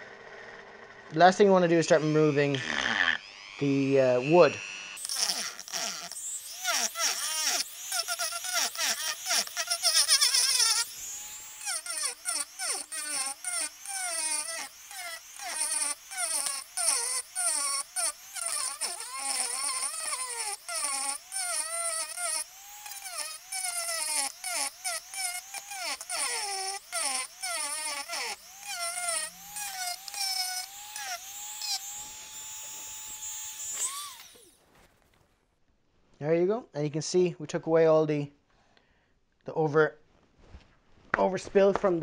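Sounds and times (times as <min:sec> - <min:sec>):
rotary tool grinding whine: 0:00.0 - 0:34.6.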